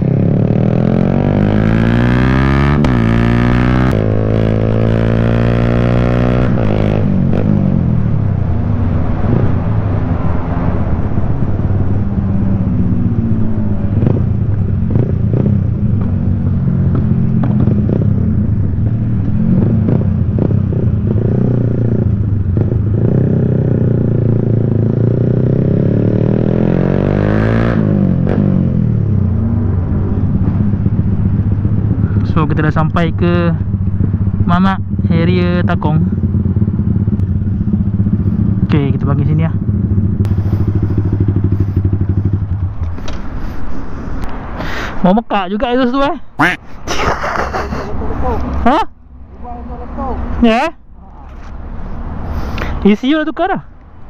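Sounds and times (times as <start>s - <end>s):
motorcycle engine accelerating: 0.0s - 44.3s.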